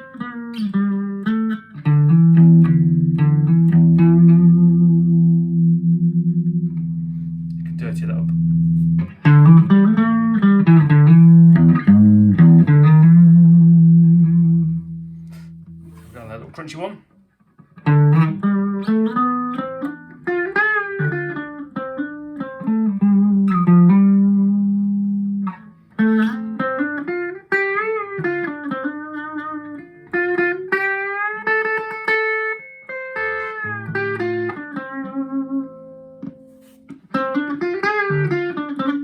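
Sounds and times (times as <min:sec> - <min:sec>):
overdriven electric guitar lead: 0:00.0 - 0:16.1, 0:17.8 - 0:39.0.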